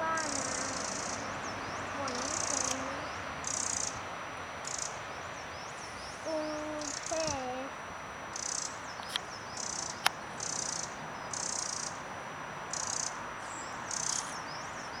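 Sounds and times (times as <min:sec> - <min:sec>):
wren alarm calls: 0:00.0 - 0:07.6, 0:08.3 - 0:12.0, 0:12.7 - 0:15.0.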